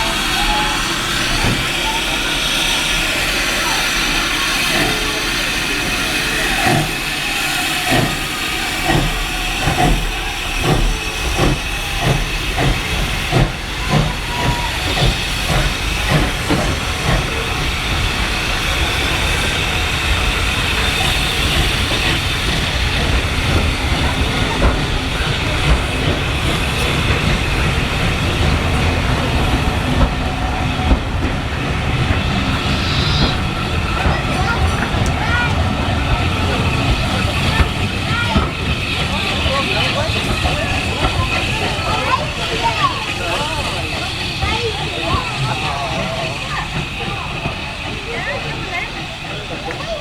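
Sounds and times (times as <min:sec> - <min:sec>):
steam locomotive chuffing: 0:00.0 - 0:50.0
train hiss and rumble: 0:00.0 - 0:50.0.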